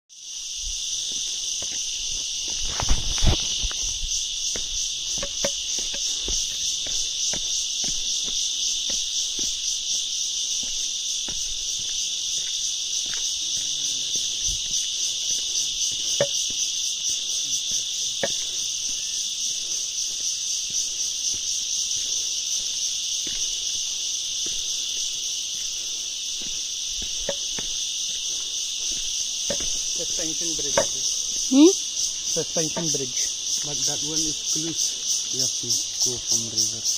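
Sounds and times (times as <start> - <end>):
insects buzzing: 0.1 - 36.9.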